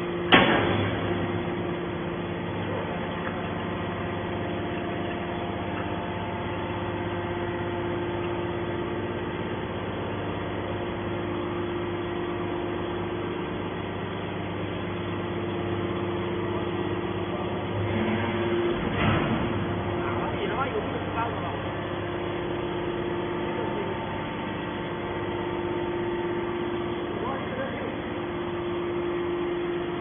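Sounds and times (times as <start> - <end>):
hydraulic baler motor humming: 0.0 - 30.0.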